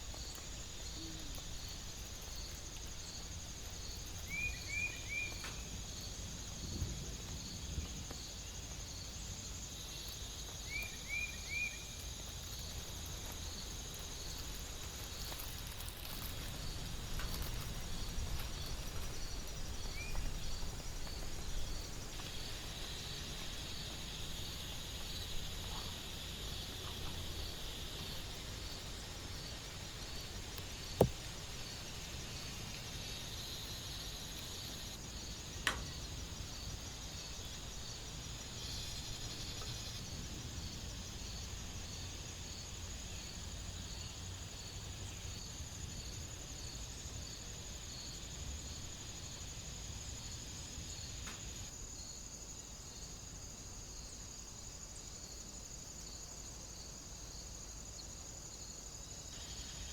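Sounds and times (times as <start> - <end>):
crickets trilling and chirping: 0.0 - 59.9
soft steady hiss: 0.0 - 59.9.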